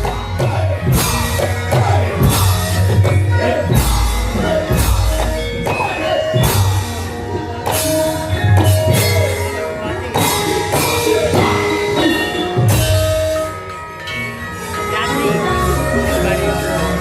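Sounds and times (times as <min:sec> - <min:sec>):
jingling percussion: 0:00.0 - 0:17.0
metallophones ringing: 0:00.0 - 0:17.0.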